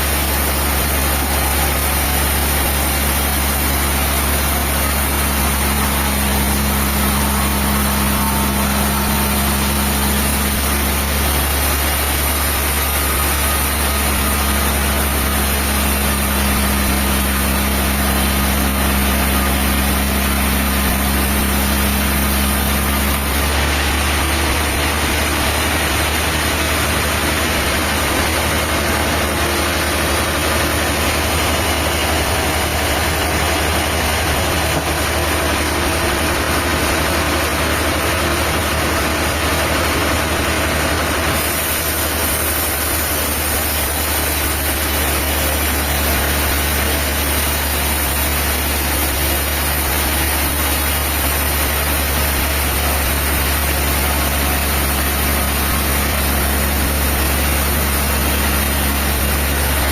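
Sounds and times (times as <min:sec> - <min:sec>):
machinery engine running: 0:00.0 - 0:59.9.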